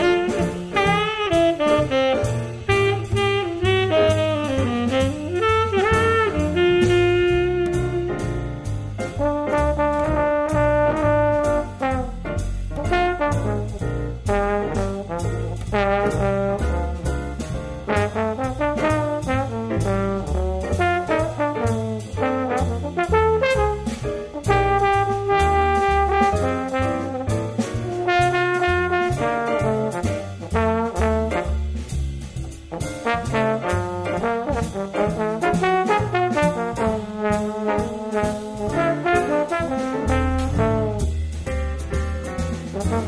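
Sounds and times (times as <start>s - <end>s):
jazz music with brass: 0.0s - 43.0s.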